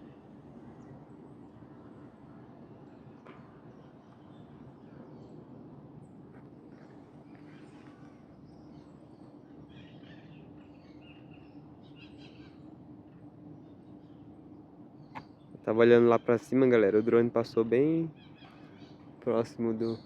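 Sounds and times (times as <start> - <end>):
birds chirping faintly: 0.0 - 20.0
steady low hum: 0.0 - 20.0.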